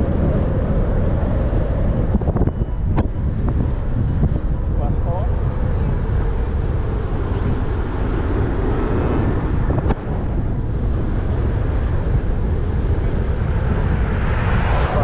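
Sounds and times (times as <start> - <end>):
road and wind rumble: 0.0 - 15.0.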